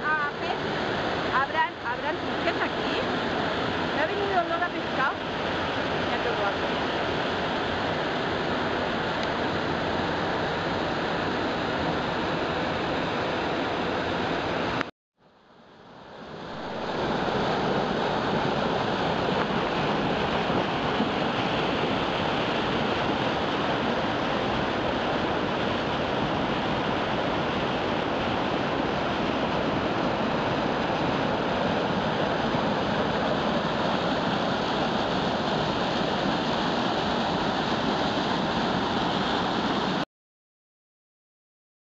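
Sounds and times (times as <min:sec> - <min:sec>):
water rushing down cascades: 0:00.0 - 0:14.9, 0:16.0 - 0:40.0.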